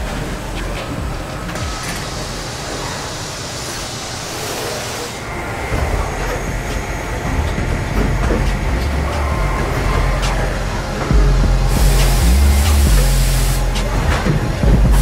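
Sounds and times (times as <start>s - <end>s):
machinery rumbling: 0.0s - 15.0s
hiss: 0.1s - 7.6s, 8.9s - 15.0s.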